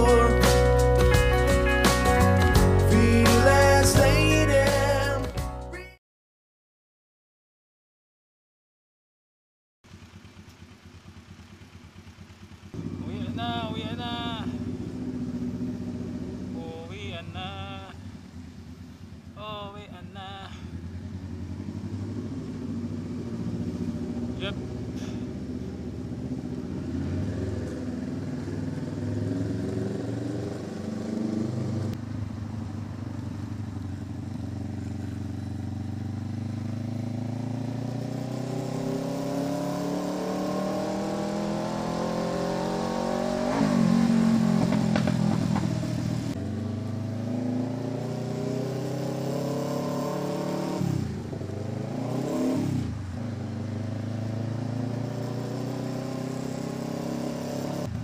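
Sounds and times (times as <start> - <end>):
motorcycle engine accelerating: 9.9 - 58.0.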